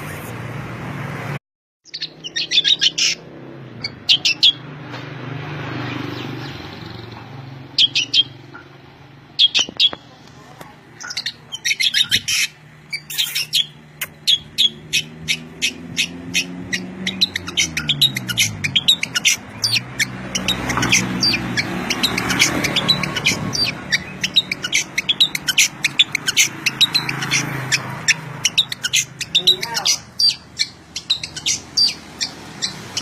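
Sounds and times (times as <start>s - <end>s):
songbird chirping: 1.8s - 33.0s.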